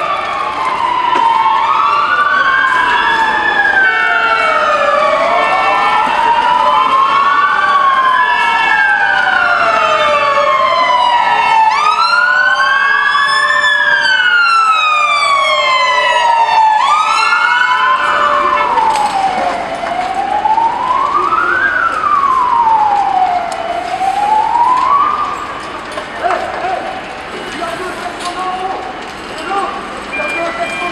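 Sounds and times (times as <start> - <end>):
emergency sirens wailing: 0.0 - 30.9.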